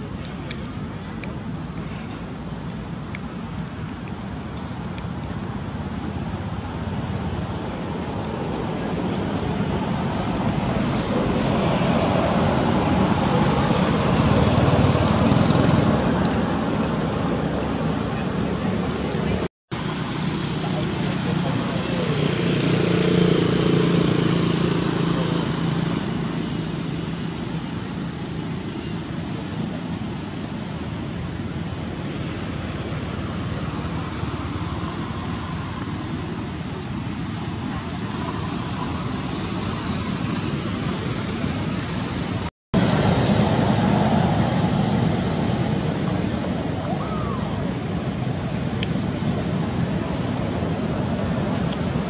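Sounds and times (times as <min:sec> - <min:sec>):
distant road traffic: 0:00.0 - 0:52.0.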